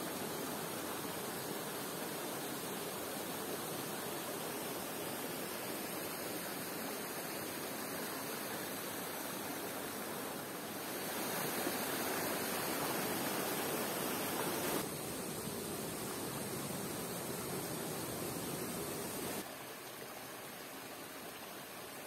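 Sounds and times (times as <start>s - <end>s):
stream rushing over waterfalls: 0.0s - 22.0s.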